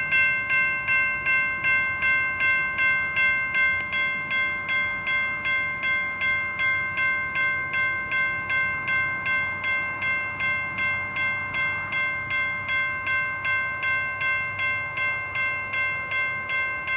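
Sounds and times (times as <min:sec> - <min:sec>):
railroad crossing bell ringing: 0:00.0 - 0:16.9.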